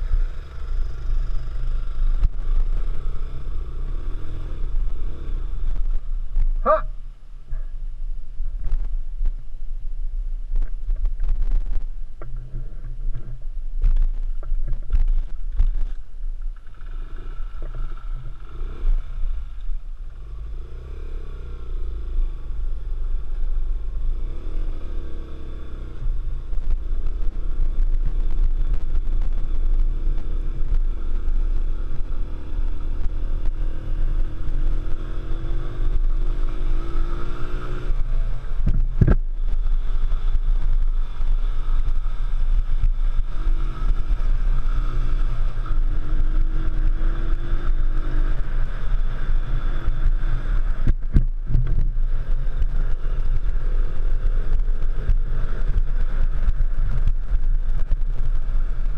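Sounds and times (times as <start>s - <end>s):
motorcycle engine revving: 0.0s - 7.8s, 12.2s - 58.9s.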